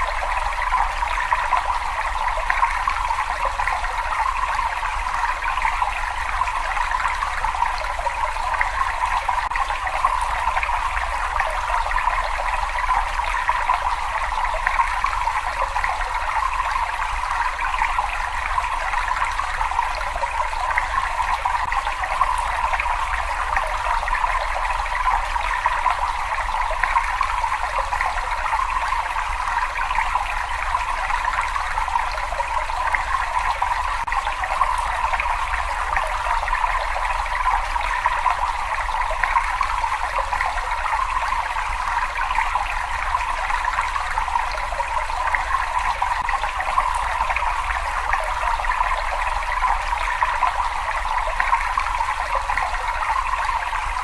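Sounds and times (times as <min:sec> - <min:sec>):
water trickling in a cave: 0:00.0 - 0:54.0.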